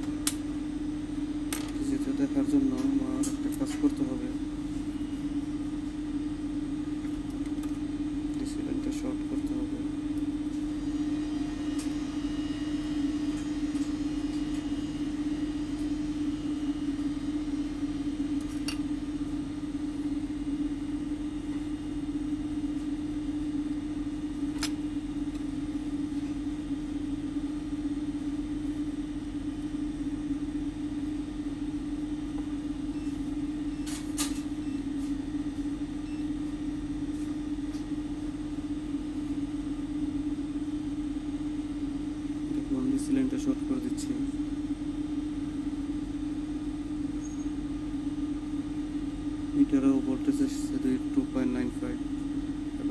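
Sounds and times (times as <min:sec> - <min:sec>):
low electrical hum: 0:00.0 - 0:52.9.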